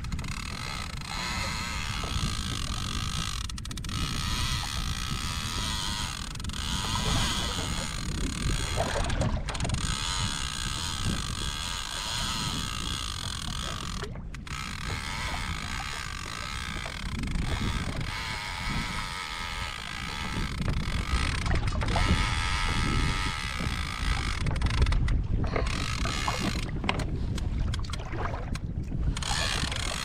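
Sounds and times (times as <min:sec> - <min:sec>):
fishing reel drag high tone: 0:00.0 - 0:24.9, 0:25.6 - 0:26.7, 0:29.1 - 0:30.0
wind and water rumble: 0:00.0 - 0:30.0.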